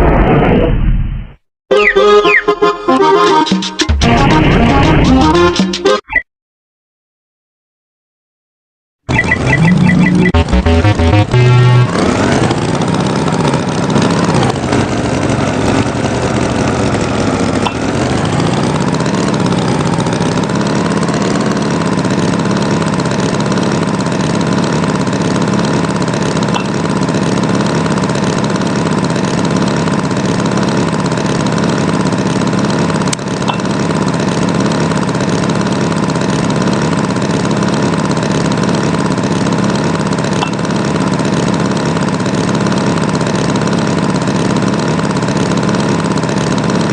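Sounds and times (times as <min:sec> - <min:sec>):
tractor engine idling: 0:09.1 - 0:46.9.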